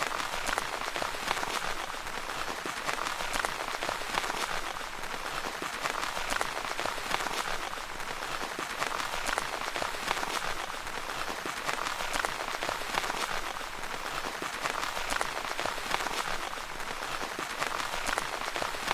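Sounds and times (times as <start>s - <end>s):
rain pattering on tent fabric: 0.0s - 18.9s.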